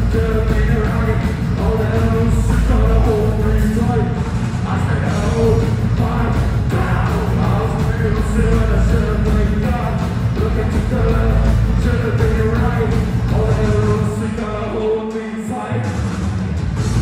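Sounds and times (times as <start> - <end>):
loud live rock band: 0.0 - 17.0.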